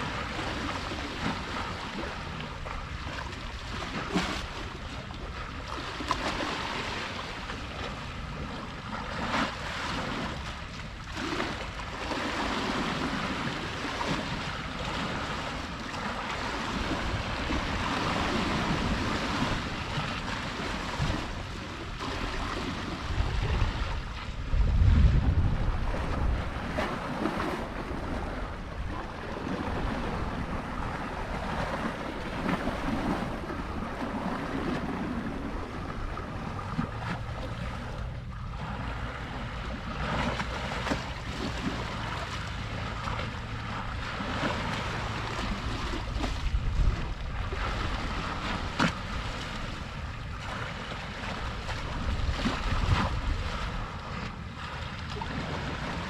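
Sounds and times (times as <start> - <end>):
sea waves washing against shore: 0.0 - 56.0
wind buffeting microphone: 0.0 - 56.0.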